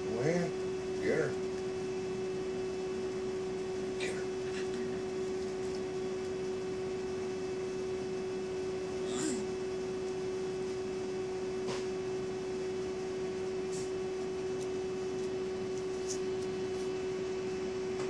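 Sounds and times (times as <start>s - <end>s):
electric fan humming: 0.0s - 18.0s.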